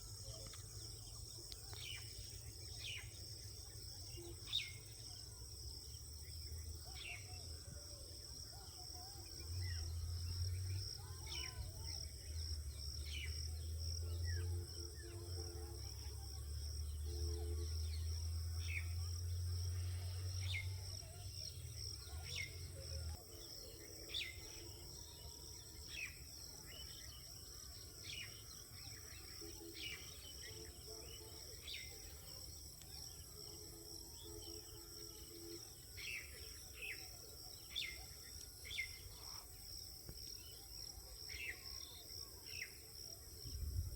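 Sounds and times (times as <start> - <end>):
insect chirps: 0.0 - 43.9.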